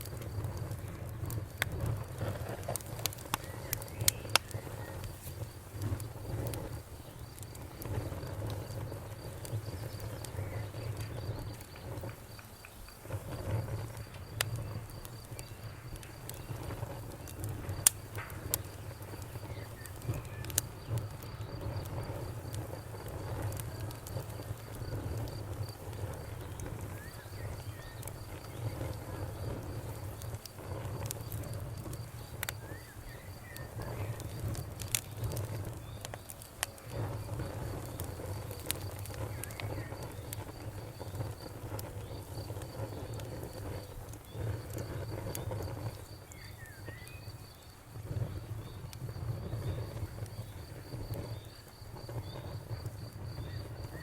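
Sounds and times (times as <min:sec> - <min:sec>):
campfire crackling and popping: 0:00.0 - 0:54.0
cricket chirping: 0:00.0 - 0:54.0.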